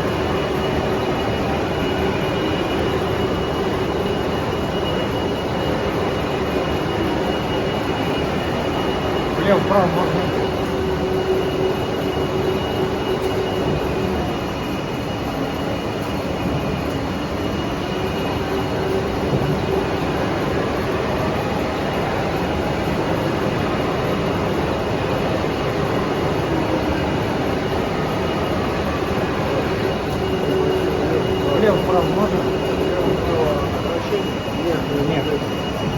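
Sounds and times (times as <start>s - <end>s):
lathe running with whine: 0.0s - 35.9s.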